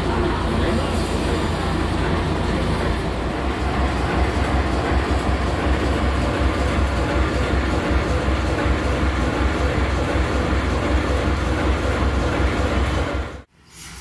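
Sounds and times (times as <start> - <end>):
train rumbling on track: 0.0 - 13.5.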